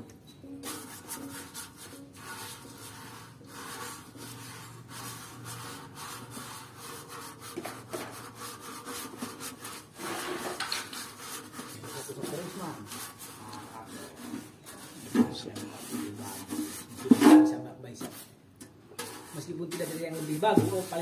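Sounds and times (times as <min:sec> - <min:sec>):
bristle brush scrubbing wet metal: 0:00.6 - 0:21.0.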